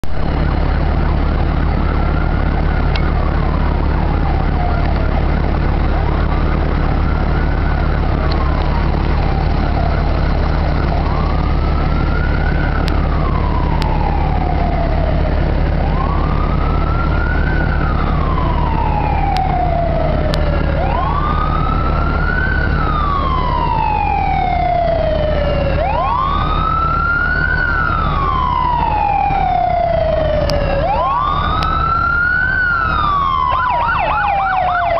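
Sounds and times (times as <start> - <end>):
steady low rumble: 0.0 - 34.9
wailing siren: 0.0 - 34.9.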